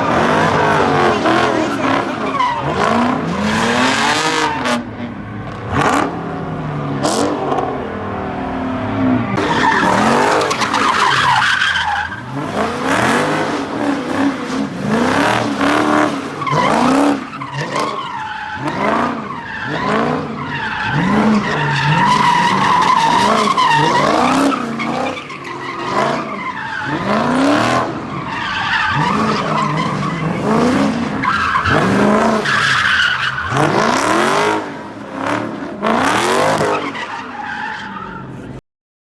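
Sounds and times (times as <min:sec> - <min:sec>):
tire squeal: 0:00.0 - 0:06.1, 0:08.9 - 0:38.6
car engine revving: 0:00.0 - 0:38.6.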